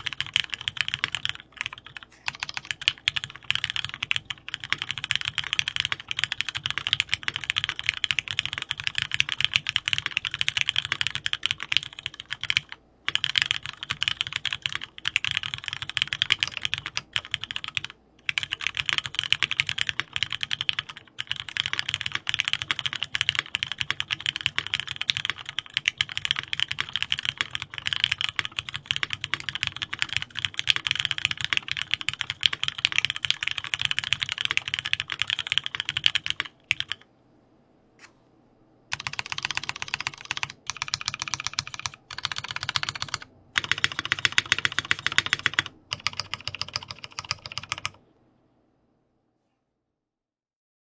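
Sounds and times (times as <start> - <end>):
rapid keyboard typing: 0.0 - 37.1, 38.9 - 48.0.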